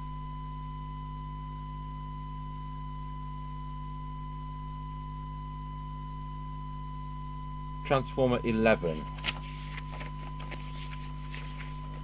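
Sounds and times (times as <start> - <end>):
low mains hum: 0.0 - 12.0.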